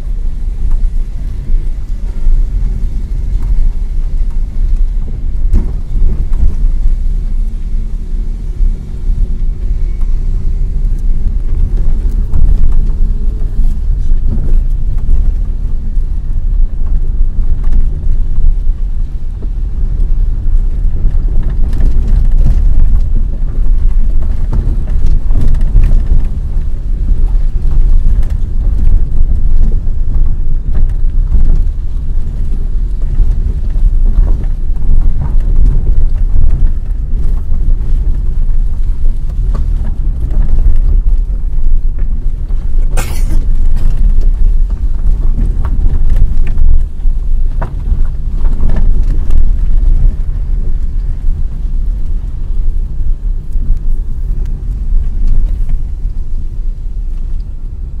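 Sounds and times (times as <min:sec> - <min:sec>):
car rumbling over rough road: 0:00.0 - 0:58.0.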